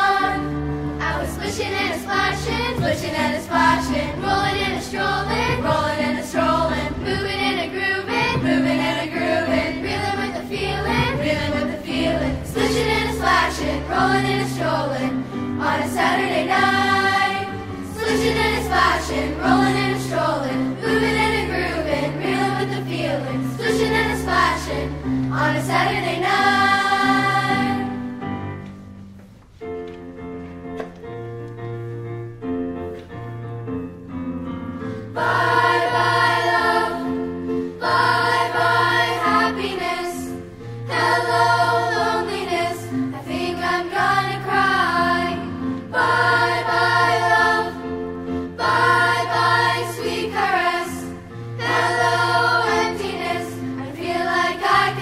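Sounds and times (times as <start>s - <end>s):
children's choir singing: 0.0s - 28.7s, 34.9s - 55.0s
instrumental accompaniment: 0.0s - 55.0s.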